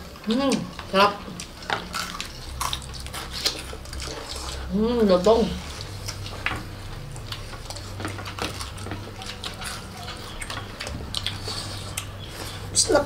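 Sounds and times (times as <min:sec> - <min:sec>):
people chewing crispy food: 0:00.0 - 0:13.0.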